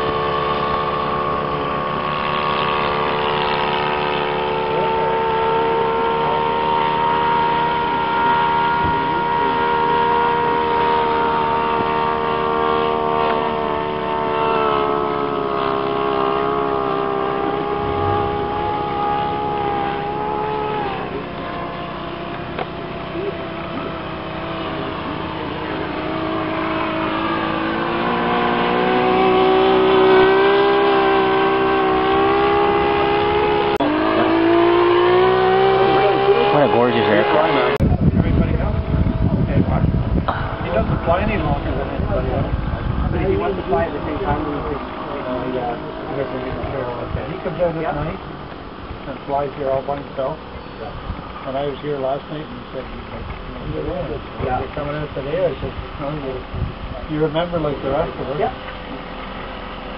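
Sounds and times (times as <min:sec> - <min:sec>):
model airplane motor: 0:00.0 - 0:50.3.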